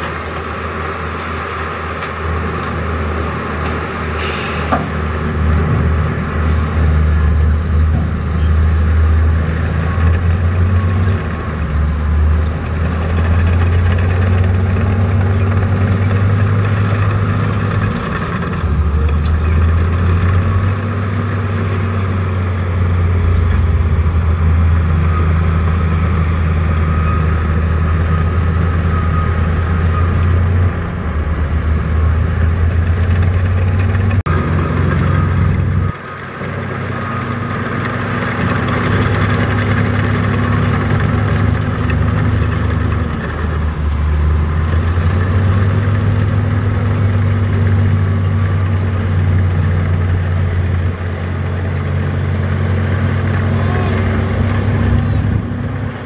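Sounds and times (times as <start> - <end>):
heavy diesel engines rumbling: 0.0 - 56.0.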